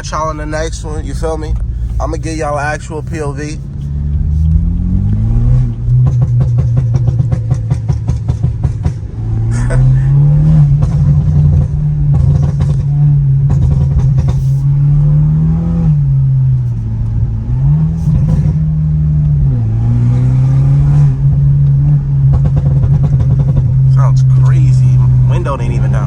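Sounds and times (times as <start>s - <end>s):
car exhaust droning from cabin: 0.0s - 26.0s.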